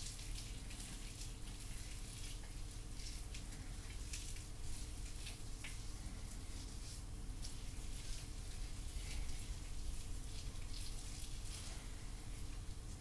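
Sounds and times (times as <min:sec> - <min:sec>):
faint low hum: 0:00.0 - 0:13.0
wet crackling of paste in hair: 0:00.0 - 0:13.0.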